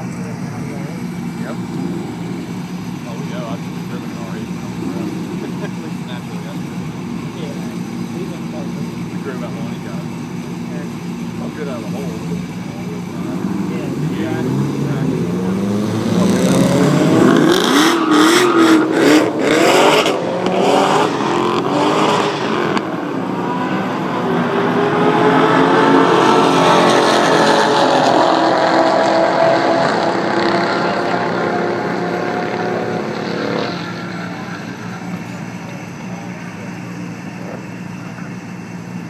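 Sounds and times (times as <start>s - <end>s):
car engines at full throttle: 0.0s - 39.0s.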